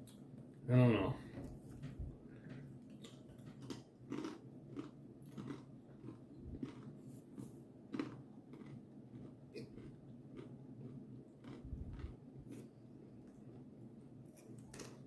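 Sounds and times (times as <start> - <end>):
person chewing crunchy crackers: 2.4 - 15.0.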